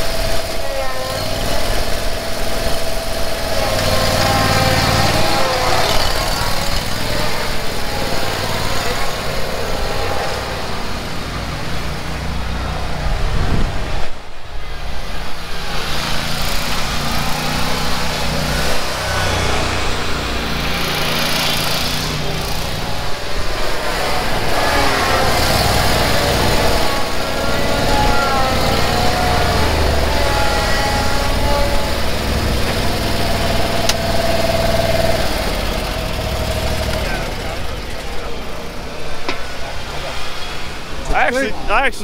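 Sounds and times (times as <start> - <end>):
mower engine running: 0.0 - 41.9.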